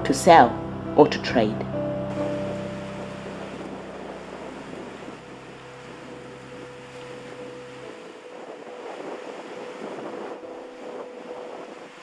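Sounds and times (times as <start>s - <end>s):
sea waves washing: 0.0s - 12.0s
wind on microphone: 1.7s - 12.0s.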